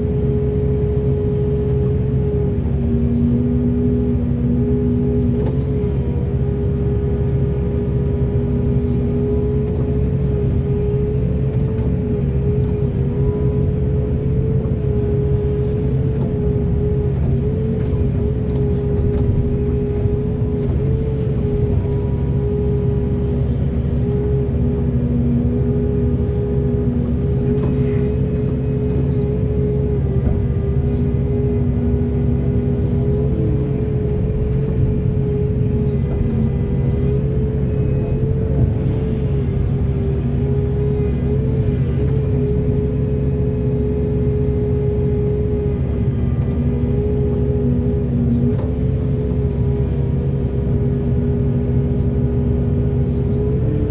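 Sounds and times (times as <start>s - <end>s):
excavator diesel engine drone: 0.0s - 53.9s
wavering hydraulic whine: 2.5s - 53.9s.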